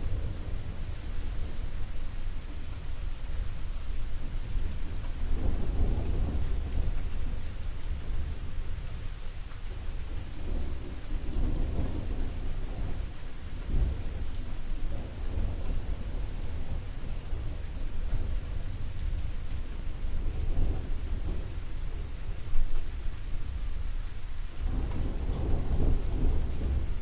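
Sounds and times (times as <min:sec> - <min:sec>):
low thunder rumbling: 0:00.0 - 0:27.0
steady rain: 0:00.0 - 0:27.0.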